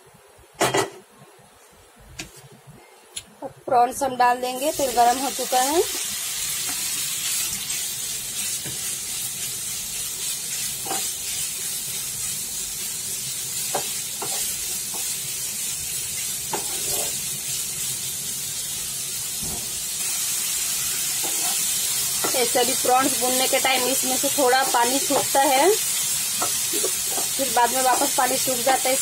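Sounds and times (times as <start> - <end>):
prawns sizzling in frying pan: 4.4 - 29.0.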